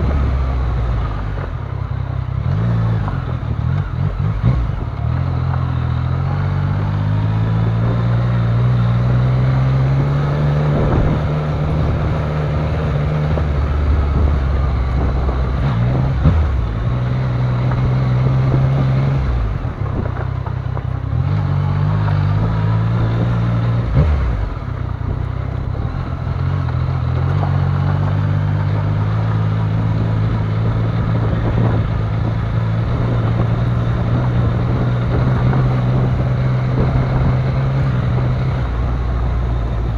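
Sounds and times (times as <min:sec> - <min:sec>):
motorcycle engine revving: 0:00.0 - 0:39.9
tyre and road noise: 0:00.0 - 0:39.9.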